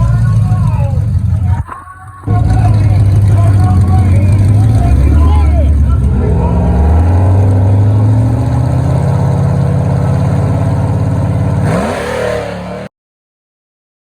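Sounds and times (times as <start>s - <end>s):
race car engine at full throttle: 0.0s - 12.9s.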